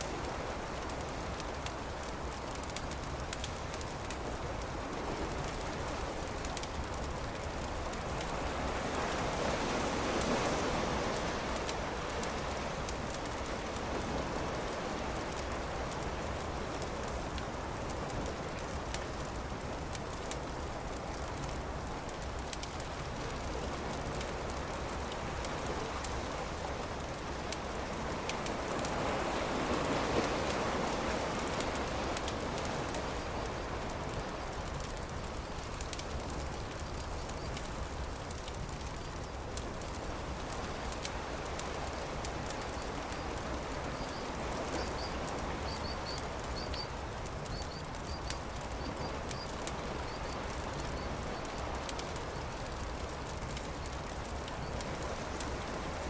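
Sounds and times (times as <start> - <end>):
campfire crackling and popping: 0.0 - 56.0
surf washing: 0.0 - 56.0.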